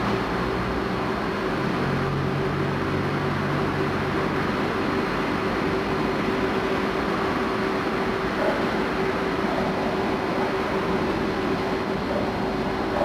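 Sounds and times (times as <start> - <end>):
train running hum: 0.0 - 13.0.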